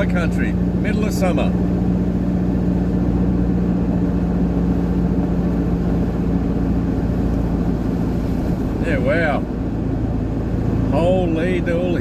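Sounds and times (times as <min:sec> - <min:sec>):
road and tyre noise: 0:00.0 - 0:12.0
vehicle engine hum: 0:00.0 - 0:12.0.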